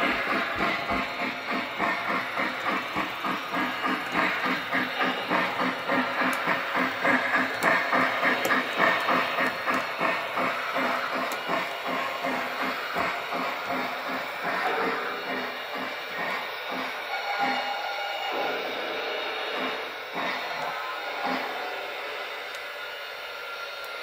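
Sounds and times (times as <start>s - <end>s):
model train chuffing: 0.0s - 24.0s.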